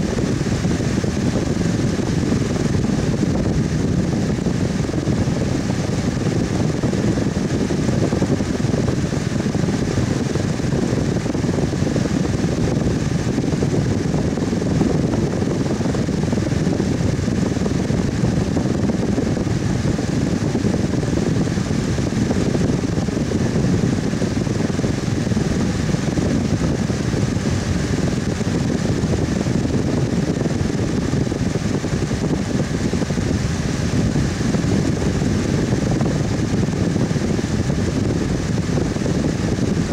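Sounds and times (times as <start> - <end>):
electric fan air rushing: 0.0 - 39.9
fan motor hum: 0.0 - 39.9.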